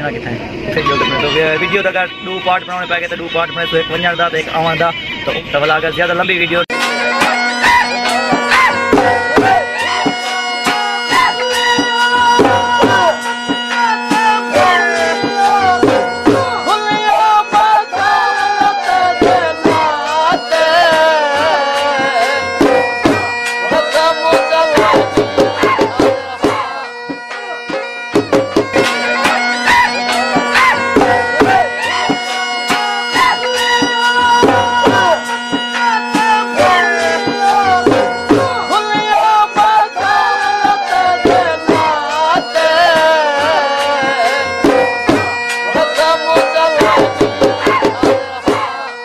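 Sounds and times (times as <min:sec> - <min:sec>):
wavering folk melody: 0:00.7 - 0:49.0
steady drone: 0:06.7 - 0:48.9
hand drum beats: 0:07.2 - 0:48.8.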